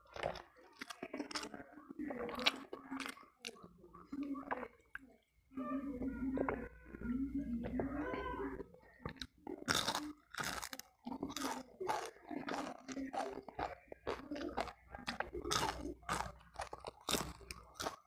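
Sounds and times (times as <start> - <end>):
crunching and chewing fried fish: 0.0 - 5.2, 6.4 - 18.0.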